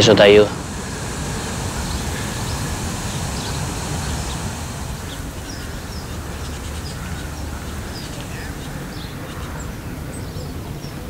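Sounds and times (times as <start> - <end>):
steady low rumble: 0.0 - 10.8
small birds chirping: 0.0 - 11.0.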